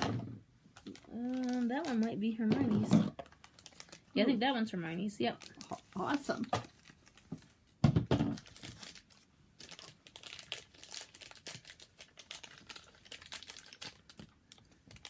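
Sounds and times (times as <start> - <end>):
plastic packaging crinkling: 0.7 - 15.0.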